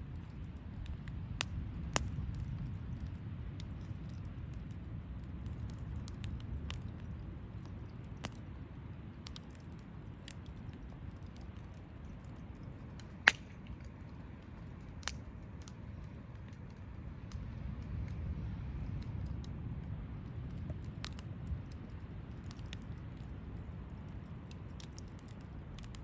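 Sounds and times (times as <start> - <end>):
campfire flames rushing: 0.0 - 26.0
fire crackles and pops: 0.0 - 26.0.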